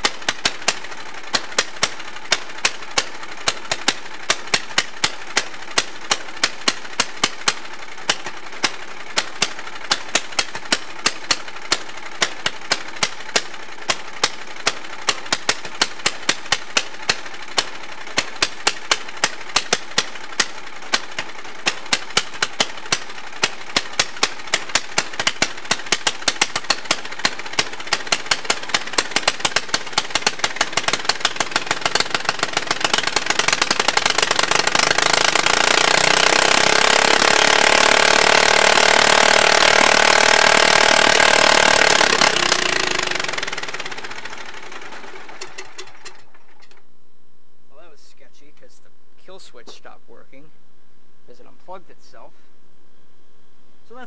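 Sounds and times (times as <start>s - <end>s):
lawn tractor engine racing: 0.0s - 46.8s.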